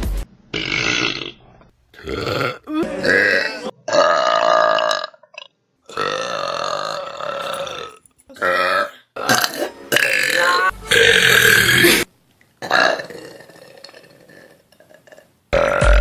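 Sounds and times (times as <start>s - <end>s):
person burping: 0.5s - 16.0s.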